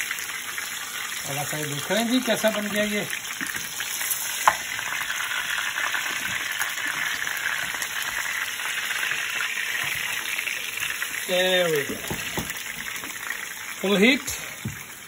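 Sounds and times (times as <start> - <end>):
meat sizzling in frying pan: 0.0 - 15.0.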